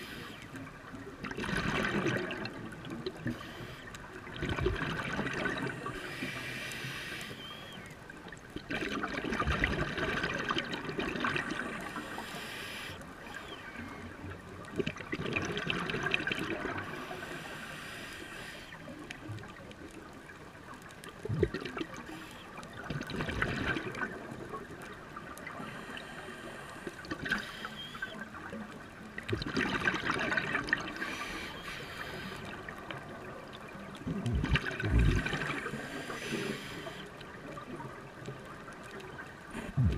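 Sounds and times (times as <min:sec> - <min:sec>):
scuba bubbles gurgling underwater: 0:00.0 - 0:39.9.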